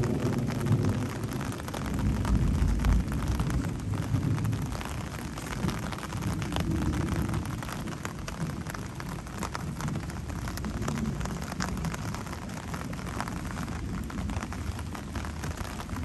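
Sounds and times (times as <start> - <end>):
raindrops ticking: 0.0 - 16.0.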